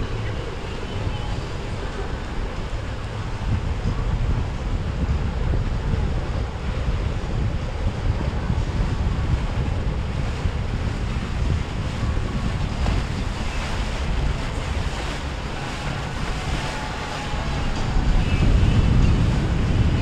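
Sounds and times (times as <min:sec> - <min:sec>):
faint boat motor whine: 0:00.0 - 0:20.0
ocean waves and surf: 0:00.0 - 0:20.0
wind buffeting microphone: 0:00.0 - 0:20.0.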